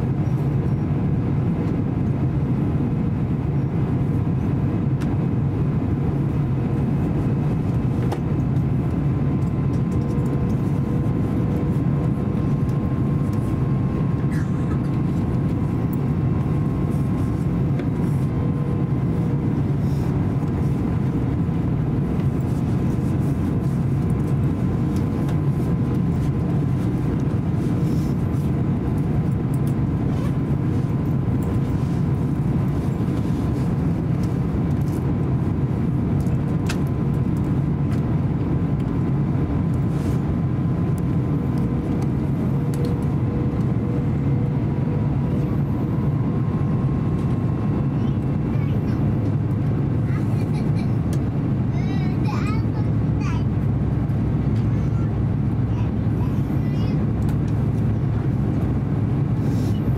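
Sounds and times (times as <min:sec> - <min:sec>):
aircraft engine rumble: 0:00.0 - 0:59.9
airflow over fuselage: 0:00.0 - 0:59.9.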